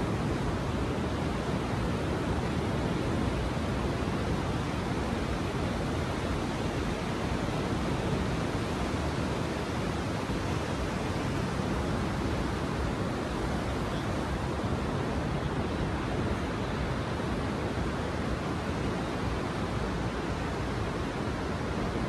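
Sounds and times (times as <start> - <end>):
ocean surf: 0.0 - 22.0
wind: 0.0 - 22.0.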